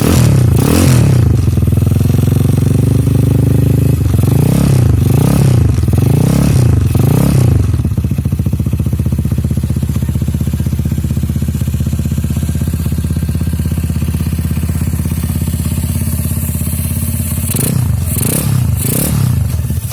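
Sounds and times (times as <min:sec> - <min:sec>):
motorcycle engine revving and idling: 0:00.0 - 0:19.9.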